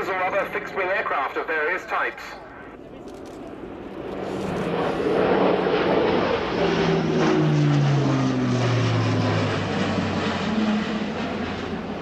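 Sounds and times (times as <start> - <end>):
turboprop aircraft passing by: 0.0 - 12.0.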